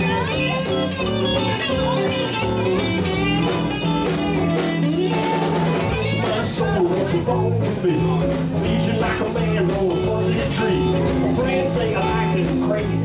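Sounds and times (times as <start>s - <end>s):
bass guitar: 0.0s - 13.0s
drum kit beat: 0.0s - 13.0s
electric guitars: 0.0s - 13.0s.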